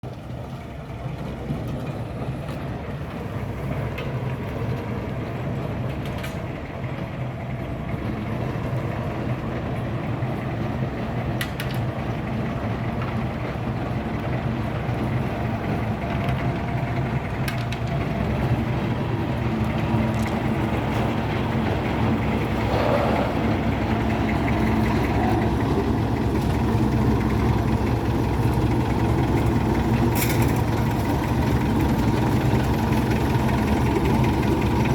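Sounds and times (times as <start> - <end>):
heavy construction machinery engine: 0.0 - 34.9.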